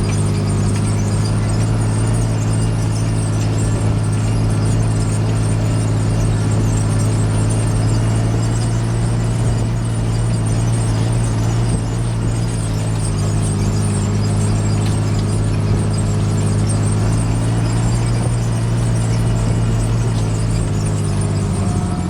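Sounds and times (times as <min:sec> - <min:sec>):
faint engine whine: 0:00.0 - 0:22.0
tractor diesel engine drone: 0:00.0 - 0:22.0.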